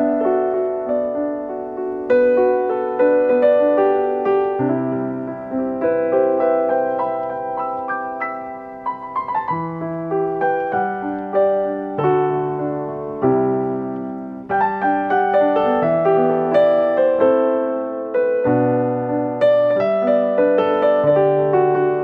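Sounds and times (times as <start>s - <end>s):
piano notes and chords: 0.0s - 22.0s.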